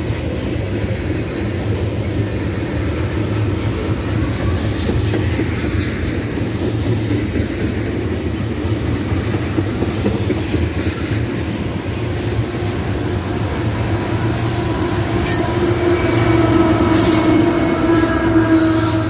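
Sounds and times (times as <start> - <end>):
diesel locomotive humming and whining: 0.0 - 19.0
train wheels rumbling on rail: 0.0 - 19.0.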